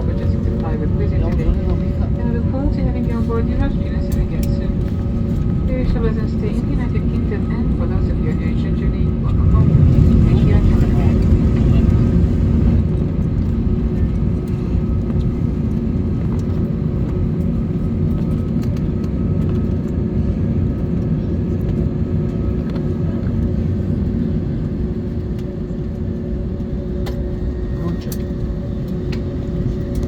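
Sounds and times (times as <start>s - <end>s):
airliner engines rumbling: 0.0s - 30.0s.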